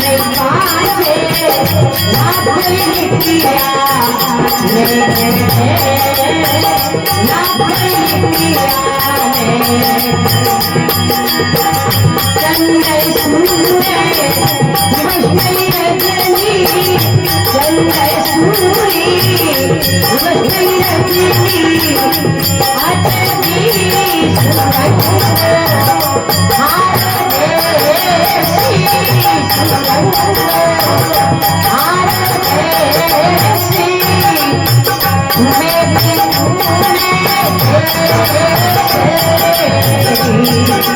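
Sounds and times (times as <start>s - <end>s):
jingling small percussion: 0.0s - 40.9s
sung devotional melody: 0.0s - 40.9s.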